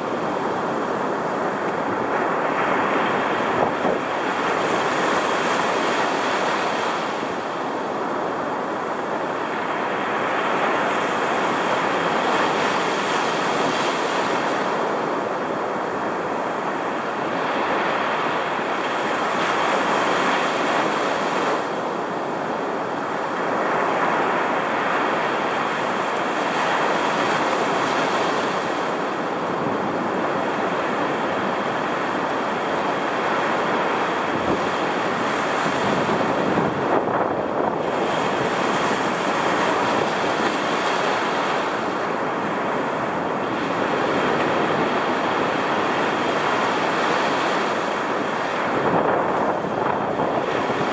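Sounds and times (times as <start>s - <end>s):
surf breaking on sand: 0.0s - 50.9s.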